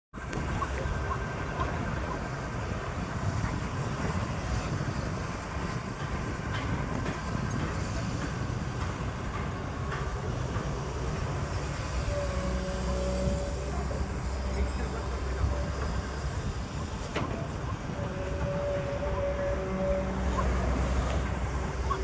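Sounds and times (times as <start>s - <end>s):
heavy machinery rumbling: 0.2s - 22.0s.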